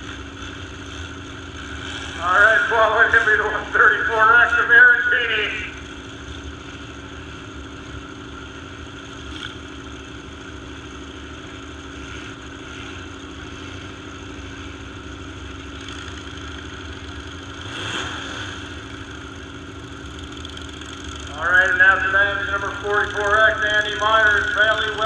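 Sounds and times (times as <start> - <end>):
truck engines running: 0.0 - 25.0.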